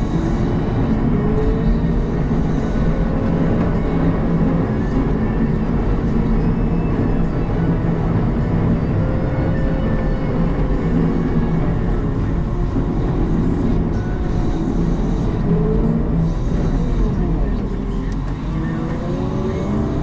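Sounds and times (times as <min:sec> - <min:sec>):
wheel loader diesel engine running: 0:00.0 - 0:20.0.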